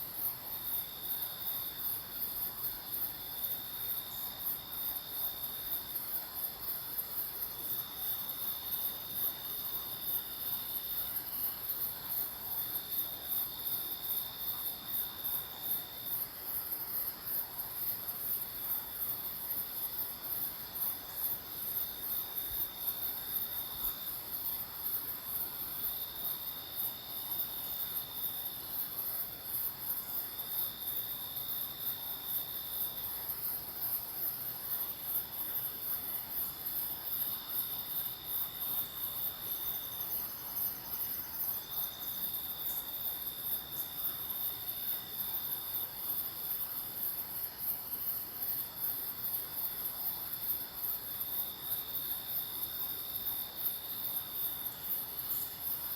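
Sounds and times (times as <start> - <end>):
thin insect tone: 0.0 - 55.9.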